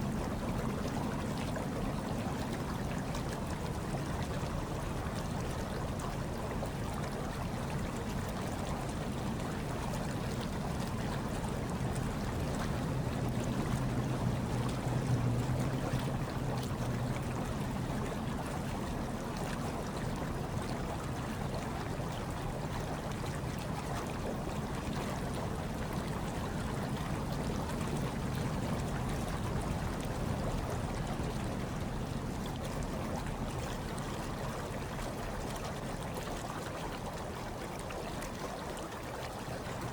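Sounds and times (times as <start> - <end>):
hot tub water bubbling: 0.0 - 39.9.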